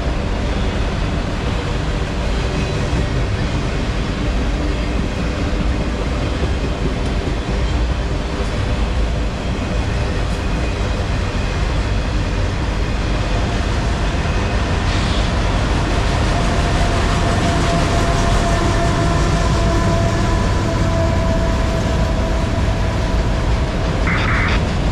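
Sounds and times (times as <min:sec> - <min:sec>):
freight train wheels rumbling on rail: 0:00.0 - 0:24.9.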